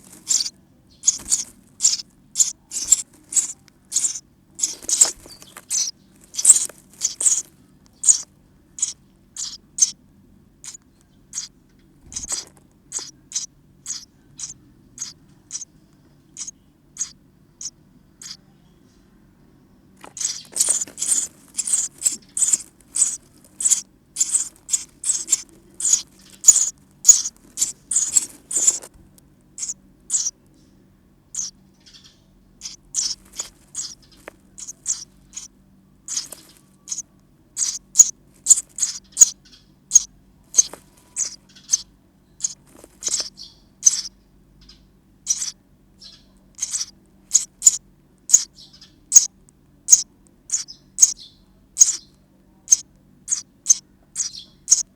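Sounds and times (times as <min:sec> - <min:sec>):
nestlings chirping: 0:00.0 - 0:10.0, 0:10.6 - 0:18.5, 0:20.0 - 0:30.7, 0:31.3 - 0:54.9.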